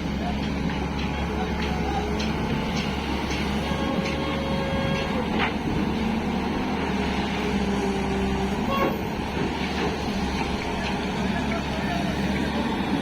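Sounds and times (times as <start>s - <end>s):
excavator diesel engine and hydraulics: 0.0s - 13.0s.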